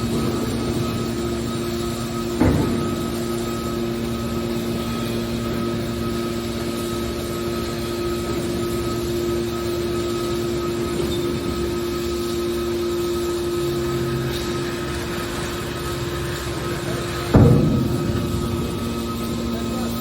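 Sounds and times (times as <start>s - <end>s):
deeper machine hum: 0.0s - 20.0s
scrap metal baler humming: 0.0s - 20.0s.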